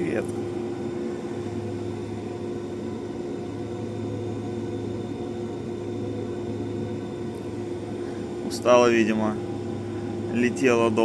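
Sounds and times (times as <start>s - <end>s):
ship machinery drone: 0.0s - 11.0s.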